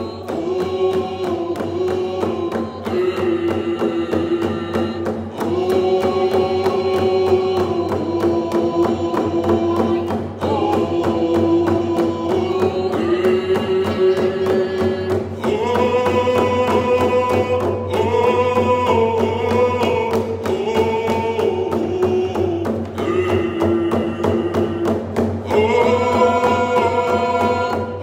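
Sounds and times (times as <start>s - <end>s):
group singing a chant: 0.0s - 28.0s
hand drums beating: 0.0s - 28.0s.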